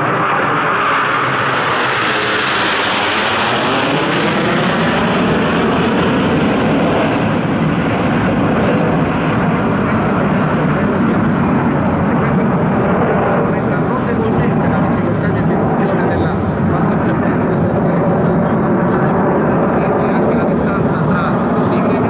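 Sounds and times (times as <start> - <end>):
jets flying overhead: 0.0 - 22.0.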